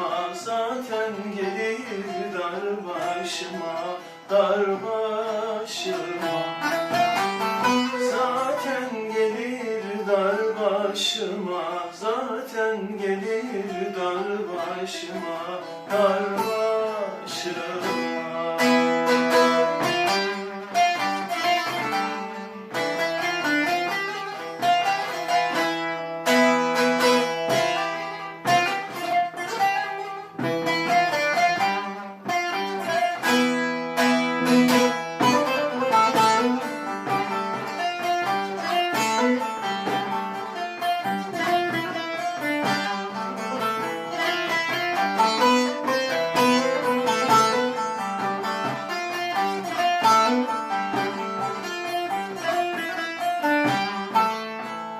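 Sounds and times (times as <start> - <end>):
plucked strings fast melody: 0.0 - 54.9.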